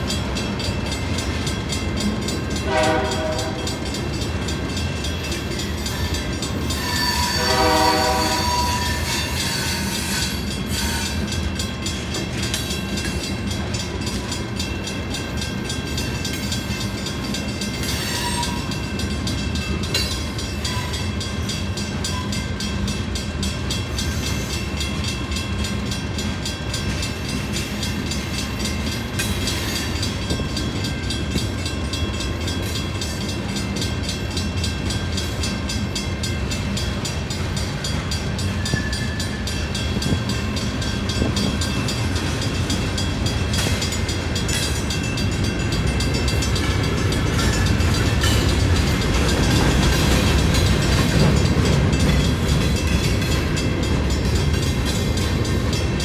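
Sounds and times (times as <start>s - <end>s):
crossing warning bell ringing: 0.0s - 56.0s
train wheels rumbling on rail: 0.0s - 56.0s.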